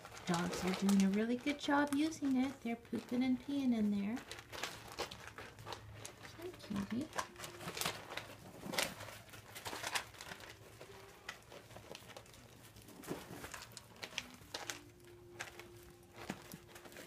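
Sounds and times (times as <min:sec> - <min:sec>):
puppy paws crinkling paper: 0:00.0 - 0:17.0.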